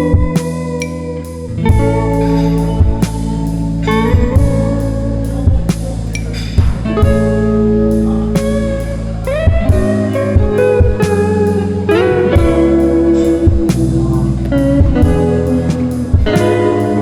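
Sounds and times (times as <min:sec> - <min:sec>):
steady drum beat: 0:00.0 - 0:00.9, 0:01.6 - 0:17.0
guitar with sliding notes: 0:00.0 - 0:17.0.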